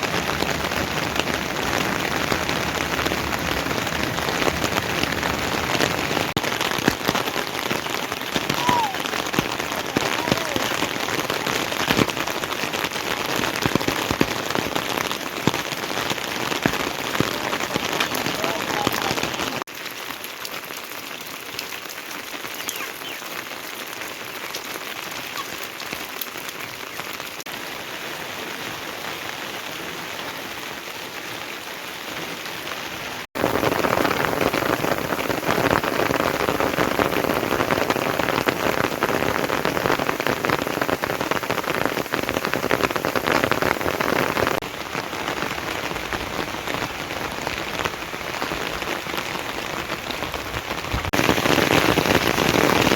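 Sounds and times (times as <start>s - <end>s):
heavy rain hissing: 0.0s - 20.0s, 21.0s - 52.9s.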